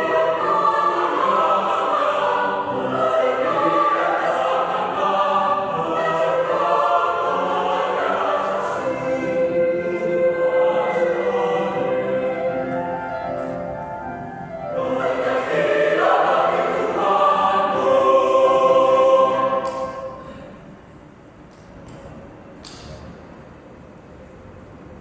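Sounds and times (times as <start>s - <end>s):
choir singing in parts: 0.0s - 20.5s.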